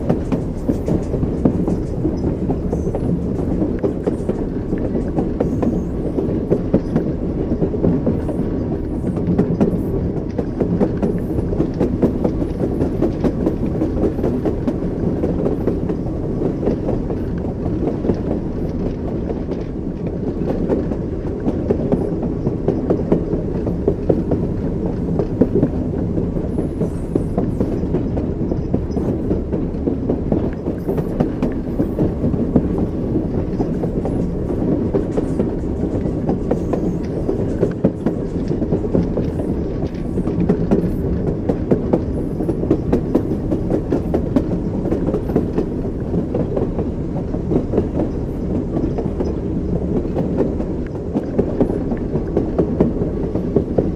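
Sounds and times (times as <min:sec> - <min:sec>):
low rumble of carriages: 0:00.0 - 0:53.9
train wheels clacking over rail joints: 0:00.0 - 0:53.9.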